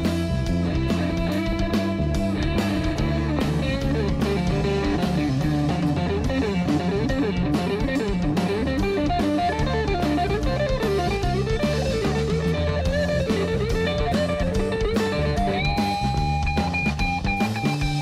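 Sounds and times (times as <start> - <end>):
bass guitar: 0.0 - 18.0
drum kit steady beat: 0.0 - 18.0
electric guitar single notes: 0.0 - 18.0.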